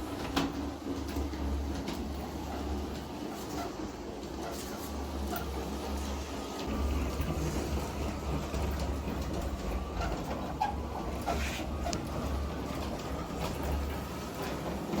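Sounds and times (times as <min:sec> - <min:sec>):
model train humming on track: 0:00.0 - 0:15.0.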